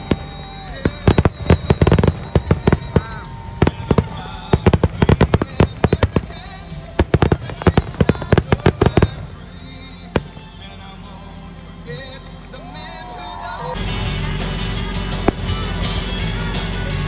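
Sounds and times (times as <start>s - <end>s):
fireworks bangs and crackles: 0.0s - 11.1s, 13.0s - 17.0s.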